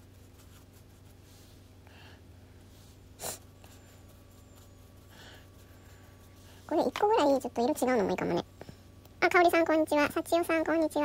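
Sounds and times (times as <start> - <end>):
humidifier humming: 0.0 - 11.0.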